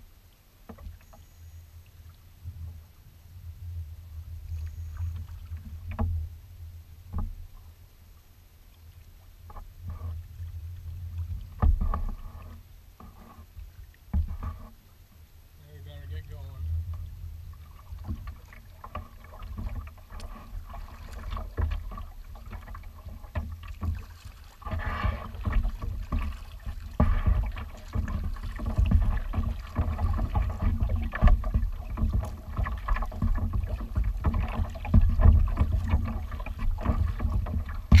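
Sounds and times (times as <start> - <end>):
water splashing against kayak hull: 0.6 - 8.0, 8.6 - 38.0.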